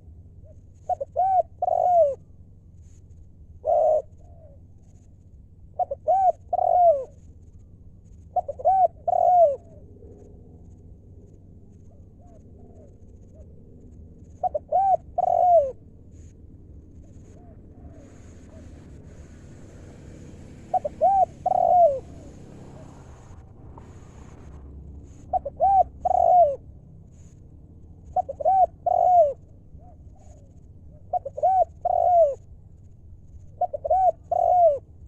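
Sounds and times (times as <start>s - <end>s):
dove cooing: 0.0s - 2.2s, 3.6s - 5.0s, 5.7s - 7.6s, 8.2s - 32.6s, 33.3s - 35.0s.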